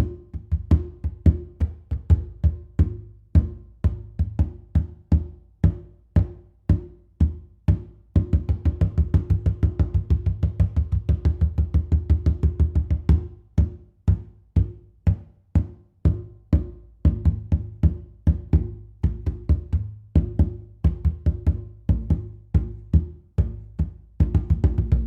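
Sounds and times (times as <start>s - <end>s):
conga drum played by hand: 0.0s - 25.0s.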